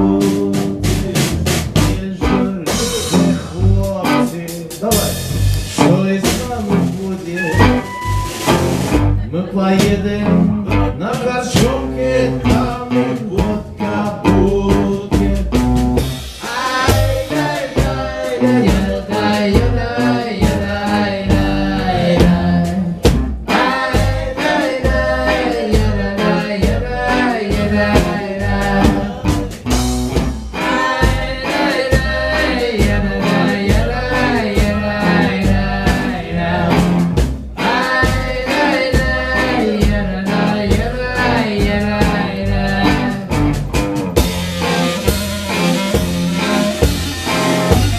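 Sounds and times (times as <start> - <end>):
folk band playing: 0.0 - 47.9
steady drum beat: 0.0 - 47.9.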